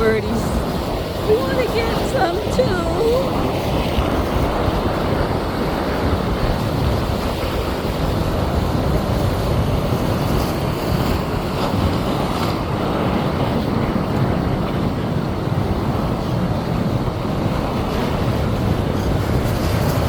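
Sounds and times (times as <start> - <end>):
ocean surf: 0.0 - 20.0
wind buffeting the microphone: 0.0 - 20.0.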